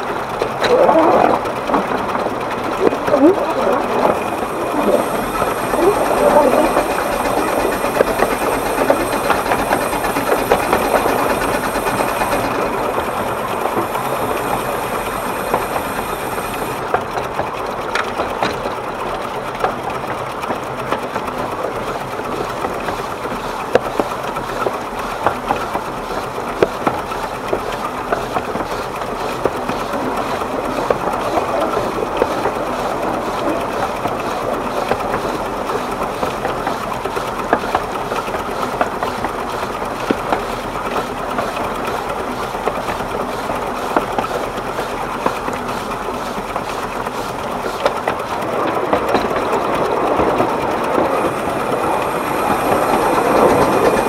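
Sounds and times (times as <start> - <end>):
steam locomotive chuffing: 0.0 - 54.0
wheels clattering on track: 0.0 - 54.0.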